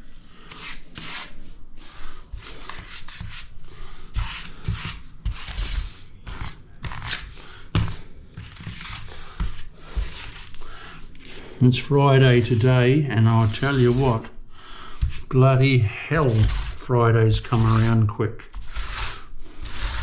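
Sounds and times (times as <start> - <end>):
grouting tool scraping tiles: 0.5 - 1.5, 2.3 - 14.4, 15.0 - 15.4, 16.2 - 20.0.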